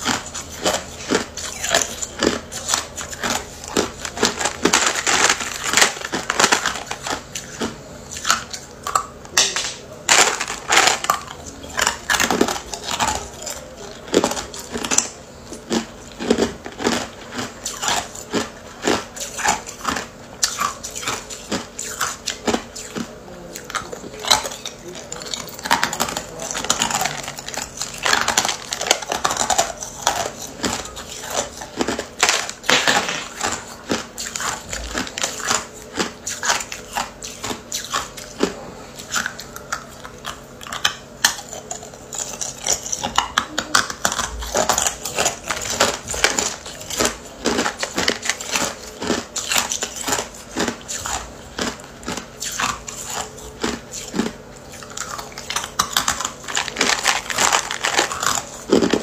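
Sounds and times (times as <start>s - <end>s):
ice cubes crunched between teeth: 0.0s - 59.0s.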